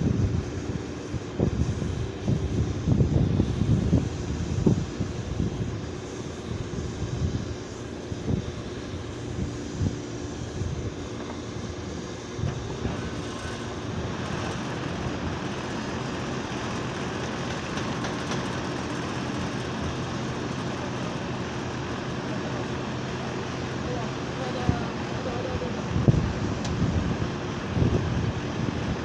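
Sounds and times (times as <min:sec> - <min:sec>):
air conditioner compressor hum: 0:00.0 - 0:29.0.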